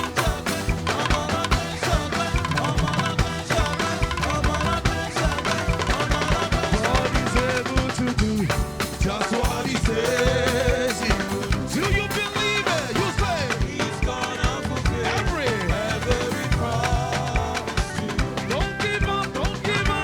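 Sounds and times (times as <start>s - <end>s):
live band playing gospel dance music: 0.0s - 20.0s
steady drum beat: 0.0s - 20.0s.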